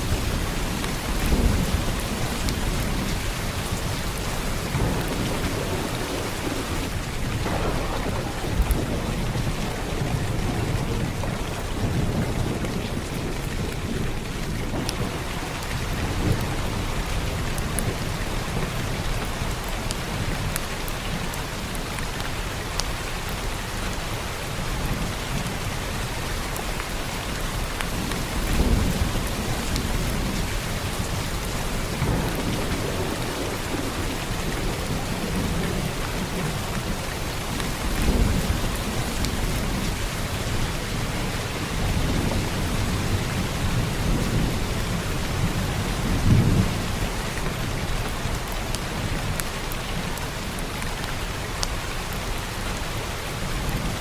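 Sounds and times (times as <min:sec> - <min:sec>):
low thunder rumbling: 0:00.0 - 0:20.5, 0:27.6 - 0:50.8
heavy rain pouring: 0:00.0 - 0:54.0.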